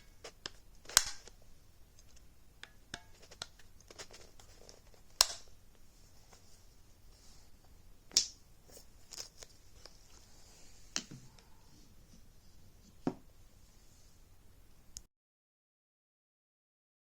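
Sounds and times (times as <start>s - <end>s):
faint room hush: 0.0s - 15.1s.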